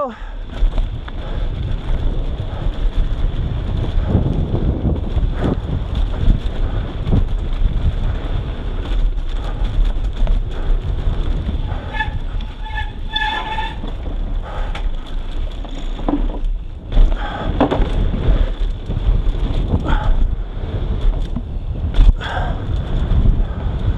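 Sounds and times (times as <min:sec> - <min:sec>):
bike rattling: 0:00.0 - 0:23.9
bike tyres rolling over dirt: 0:00.0 - 0:23.9
wind buffeting microphone: 0:00.2 - 0:23.9.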